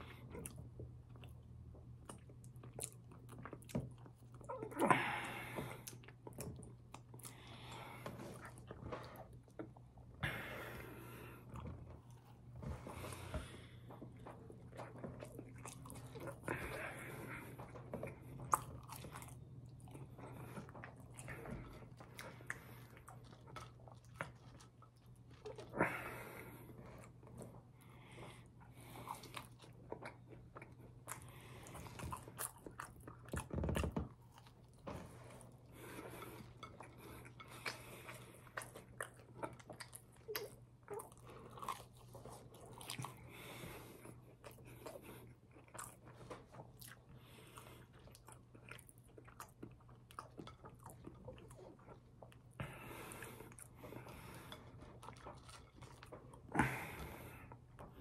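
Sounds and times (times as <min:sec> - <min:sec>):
chewing and biting food: 0:00.0 - 0:04.8, 0:11.4 - 0:25.8, 0:28.6 - 0:58.0
low steady hum: 0:00.0 - 0:58.0.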